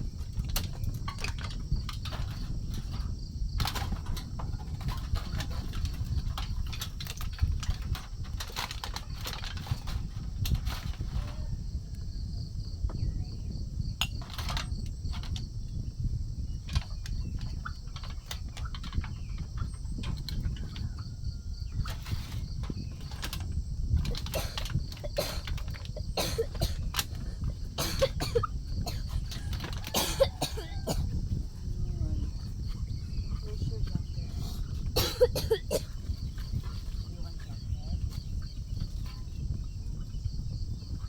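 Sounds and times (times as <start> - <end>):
faint high insect drone: 0.0 - 41.0
clicks and rustles: 0.2 - 11.4, 14.0 - 15.5, 16.6 - 21.1, 21.8 - 39.6.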